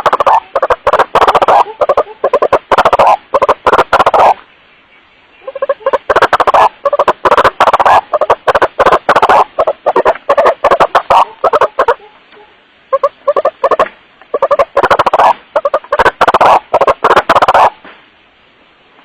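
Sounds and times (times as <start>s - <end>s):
waterhen calling: 0.0s - 17.8s.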